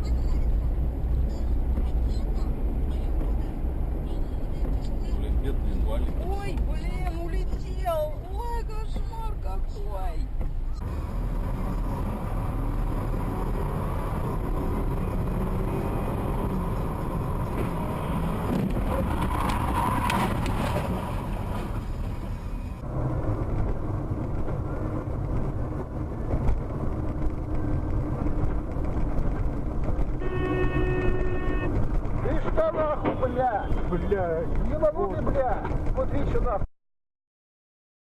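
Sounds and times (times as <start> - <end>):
car engine and road noise: 0.0 - 36.7.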